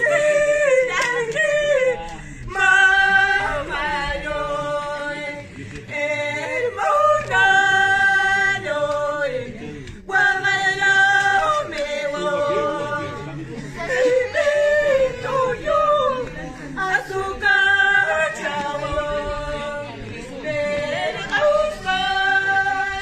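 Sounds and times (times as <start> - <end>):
women singing unaccompanied: 0.0 - 23.0.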